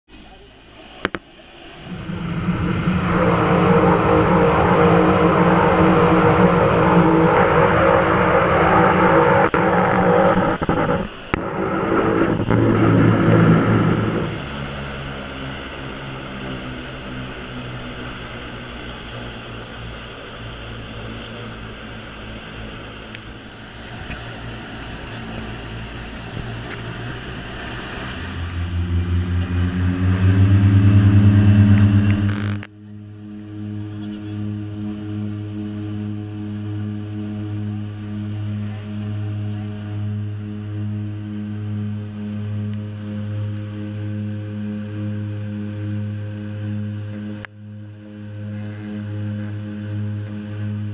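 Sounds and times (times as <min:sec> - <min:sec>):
turboprop engine drone: 0:00.0 - 0:50.9.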